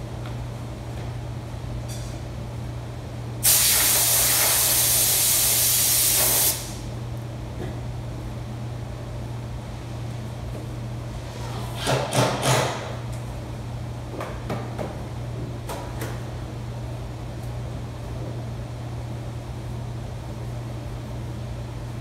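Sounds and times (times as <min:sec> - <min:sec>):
steady low hum: 0:00.0 - 0:11.6, 0:12.9 - 0:22.0.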